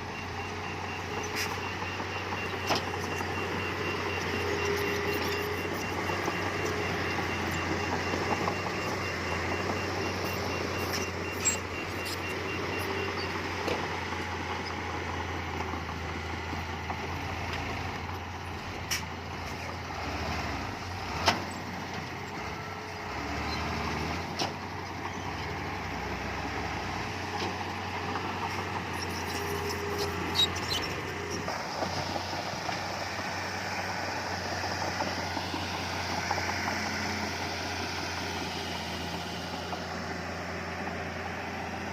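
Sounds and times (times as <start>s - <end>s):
diesel machinery running: 0.0s - 41.9s.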